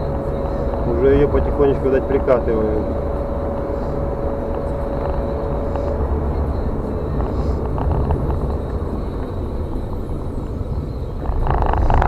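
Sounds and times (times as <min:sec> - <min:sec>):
car engine and tyre rumble: 0:00.0 - 0:12.0
faint steady whine: 0:00.0 - 0:12.0.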